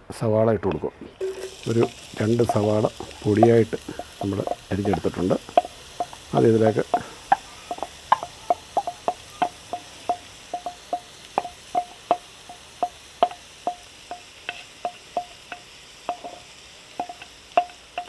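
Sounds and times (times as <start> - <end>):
onions frying: 0.7 - 18.0
spoon knocking on metal pan: 1.2 - 18.0.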